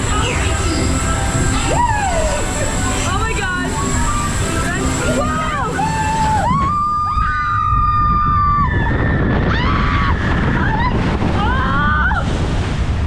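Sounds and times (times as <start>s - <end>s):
water rushing past boat: 0.0s - 13.0s
wind on microphone: 0.0s - 13.0s
riders screaming: 1.5s - 12.2s.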